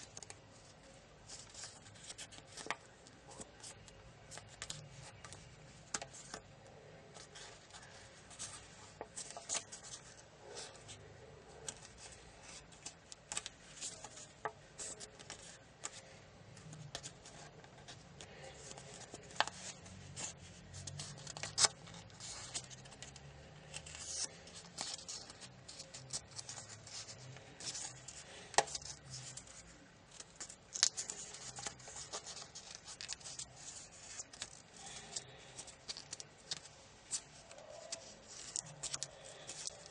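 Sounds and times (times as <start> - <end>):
paper rustling and crinkling: 0.0 - 6.5, 7.1 - 39.9
paper crackling snaps: 7.2 - 39.9.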